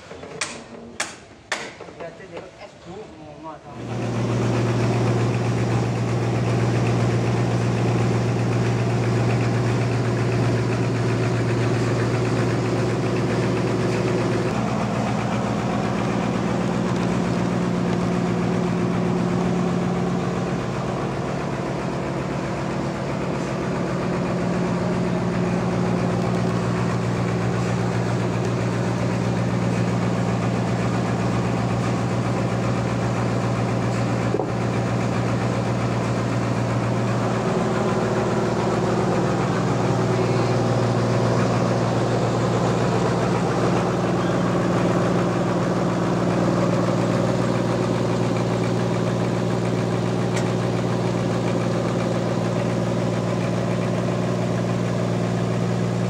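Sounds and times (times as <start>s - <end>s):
sawmill machine drone: 3.7s - 56.0s.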